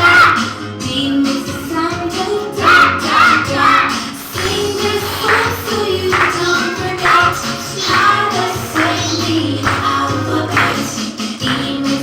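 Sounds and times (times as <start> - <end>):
children's song with backing track: 0.0 - 12.0.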